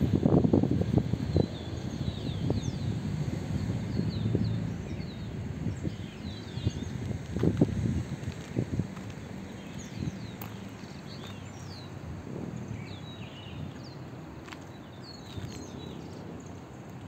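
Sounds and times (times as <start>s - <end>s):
birds chirping: 0.0s - 7.6s, 8.5s - 17.0s
low outdoor rumble: 0.0s - 17.0s.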